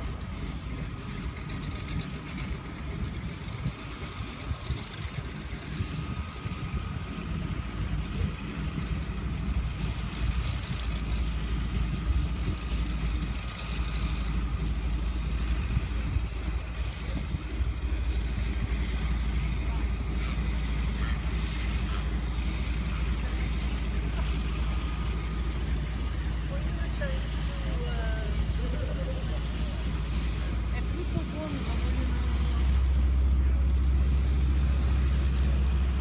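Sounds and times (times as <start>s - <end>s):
low rumble: 0.0s - 36.0s
propeller engine running: 0.0s - 36.0s.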